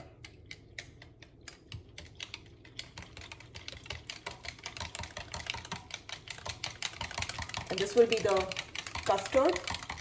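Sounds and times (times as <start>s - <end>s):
whisk clicking against a jug: 0.0s - 10.0s.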